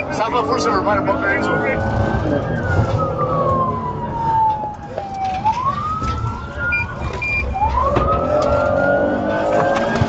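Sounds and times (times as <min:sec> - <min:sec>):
engine and road rumble: 0:00.0 - 0:10.0
police siren wailing: 0:00.0 - 0:10.0.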